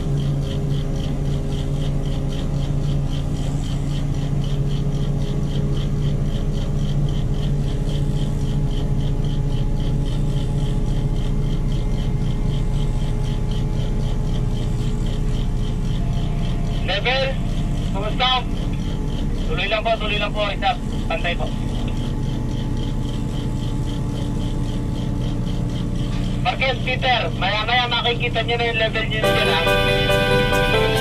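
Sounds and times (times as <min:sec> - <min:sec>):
diesel engine and hoist running: 0:00.0 - 0:31.0
high regular ticking: 0:00.0 - 0:31.0.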